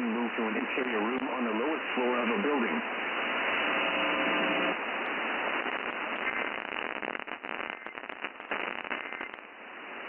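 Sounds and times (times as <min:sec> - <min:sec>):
radio static hiss with crackles: 0:00.0 - 0:10.0.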